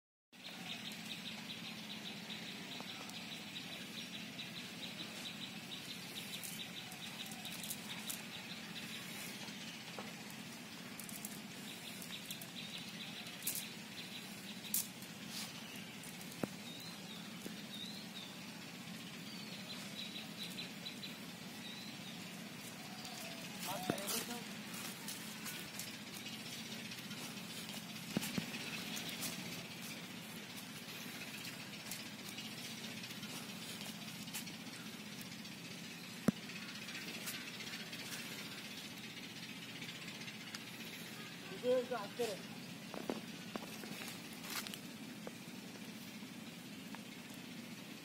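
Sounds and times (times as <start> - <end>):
high chirping bird trill: 0.4 - 42.9
gliding bird calls: 0.4 - 48.0
low steady hum: 0.5 - 48.0.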